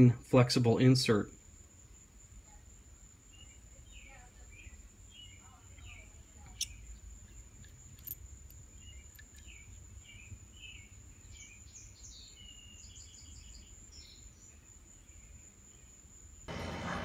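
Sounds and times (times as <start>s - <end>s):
faint birdsong chirps: 0.0s - 16.6s.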